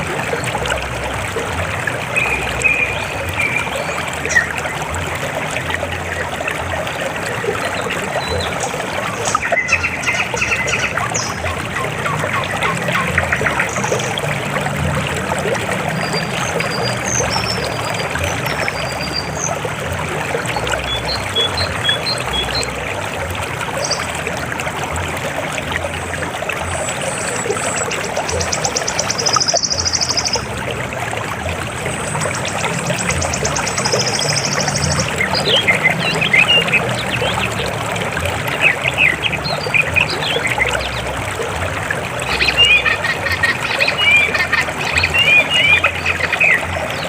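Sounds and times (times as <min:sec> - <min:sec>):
river water flowing over rocks: 0:00.0 - 0:47.0.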